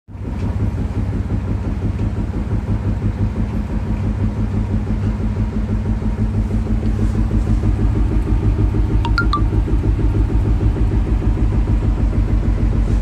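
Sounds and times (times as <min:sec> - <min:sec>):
washing machine drum spinning: 0:00.2 - 0:12.8.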